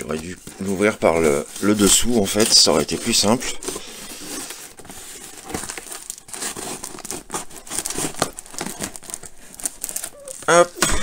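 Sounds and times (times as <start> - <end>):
cardboard box being torn open: 0.0 - 11.0
packing tape ripping: 0.0 - 11.0.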